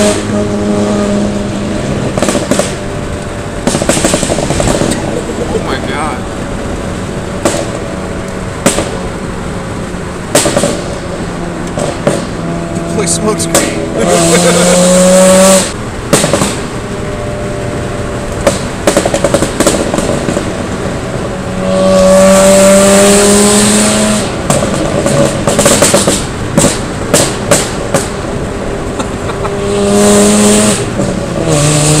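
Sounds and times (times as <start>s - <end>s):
car engine revving: 0.0s - 32.0s
exhaust popping and crackling: 0.0s - 32.0s.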